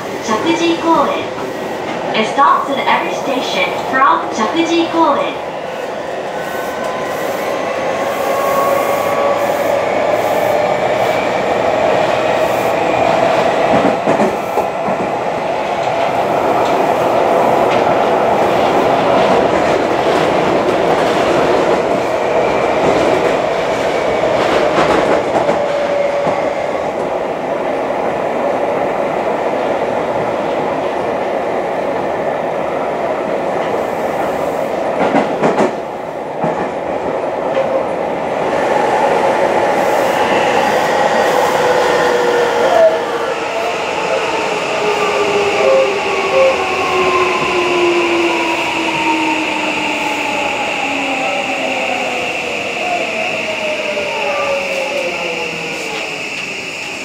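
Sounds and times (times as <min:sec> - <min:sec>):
train wheels humming on rail: 0:00.0 - 0:57.0.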